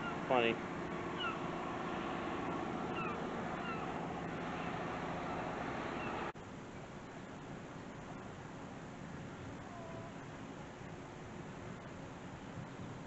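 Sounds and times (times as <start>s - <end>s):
faint low hum: 2.4s - 13.0s.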